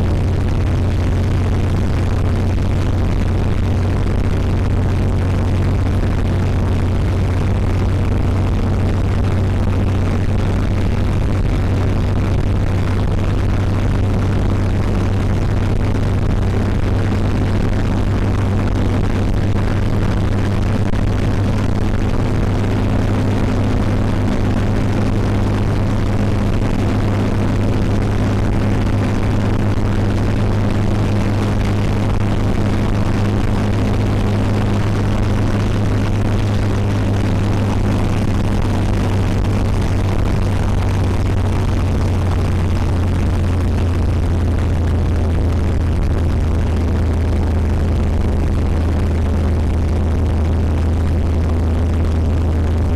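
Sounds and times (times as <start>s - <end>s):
vehicle engine drone: 0.0s - 52.9s.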